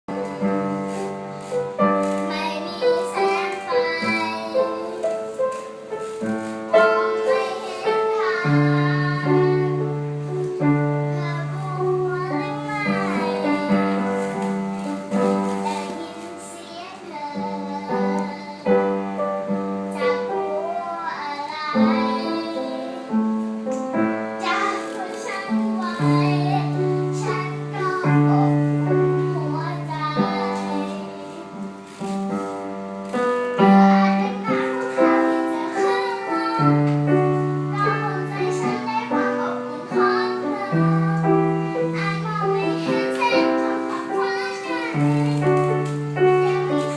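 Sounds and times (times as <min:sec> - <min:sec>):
child singing: 0:00.1 - 0:46.9.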